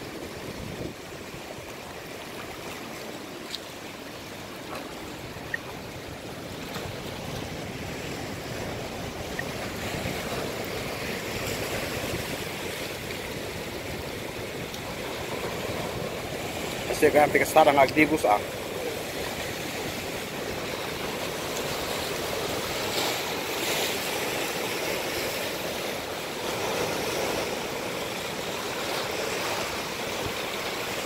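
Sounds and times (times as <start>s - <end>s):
water lapping over rocks: 0.0s - 31.0s.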